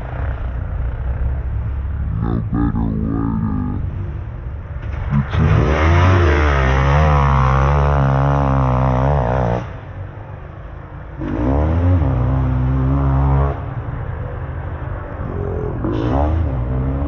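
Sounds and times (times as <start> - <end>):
dirt bike engines revving: 0.0 - 4.0, 4.9 - 9.9, 11.2 - 14.2, 14.8 - 17.0.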